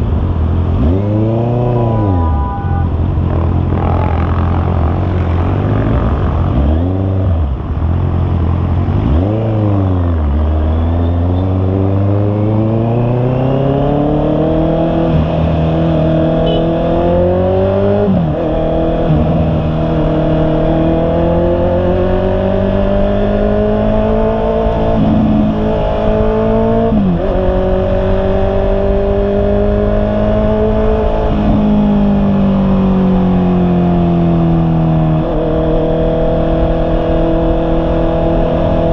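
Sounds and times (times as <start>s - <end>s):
motorcycle engine accelerating: 0.2s - 38.9s.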